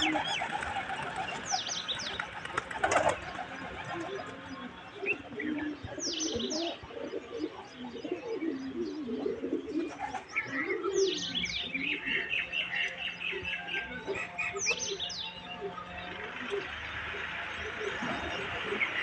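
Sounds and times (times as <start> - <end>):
pigeons cooing: 0.0 - 19.0
small birds chirping: 0.0 - 19.0.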